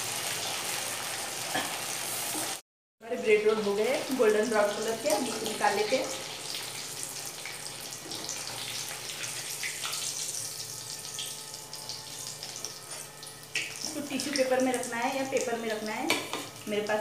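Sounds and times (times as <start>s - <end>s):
food sizzling in hot oil: 0.0s - 2.6s, 3.2s - 17.0s.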